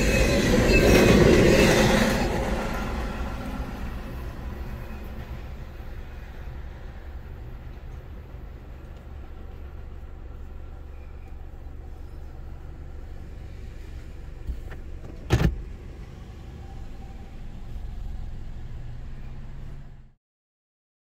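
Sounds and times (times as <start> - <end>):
car engine rumble: 0.0 - 20.2.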